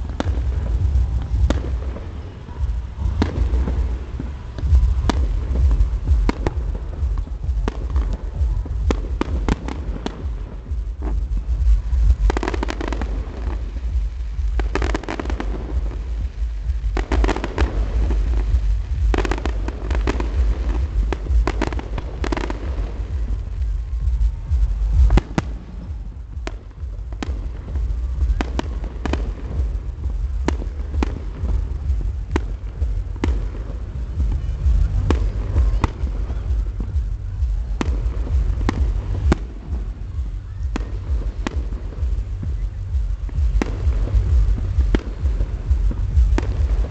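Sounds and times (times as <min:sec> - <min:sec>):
continuous low rumble: 0:00.0 - 0:46.9
fireworks bangs and crackling: 0:00.0 - 0:46.9.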